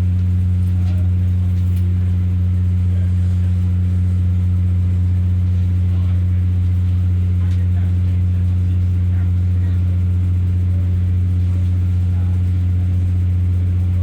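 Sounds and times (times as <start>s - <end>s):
railbus diesel engine humming: 0.0s - 14.0s.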